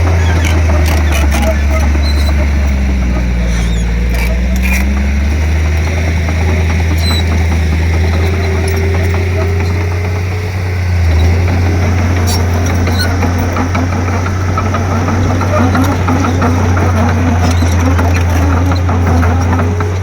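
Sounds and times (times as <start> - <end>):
bulldozer diesel engine drone: 0.0 - 20.0
wavering squeal: 0.0 - 20.0.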